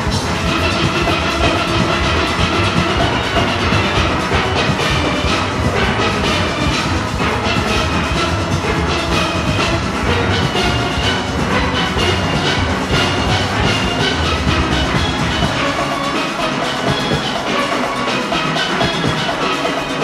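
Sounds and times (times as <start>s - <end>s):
percussion: 0.0s - 20.0s
steel orchestra playing: 0.0s - 20.0s.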